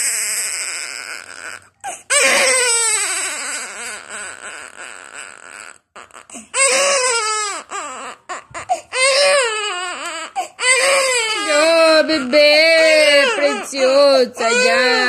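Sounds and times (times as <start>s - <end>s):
newborn baby crying: 0.0s - 15.0s.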